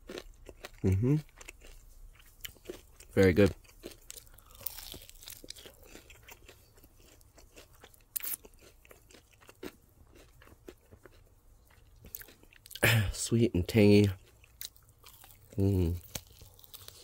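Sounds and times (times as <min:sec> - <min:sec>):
chewing crispy chicken wing: 0:00.0 - 0:17.0.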